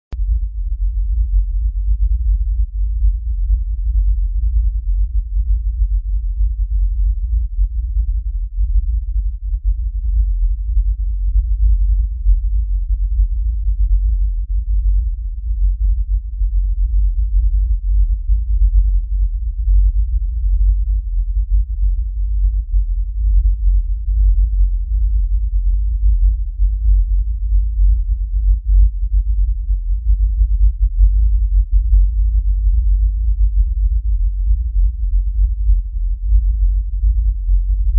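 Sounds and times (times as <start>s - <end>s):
deep low-pitched drone: 0.0s - 37.9s.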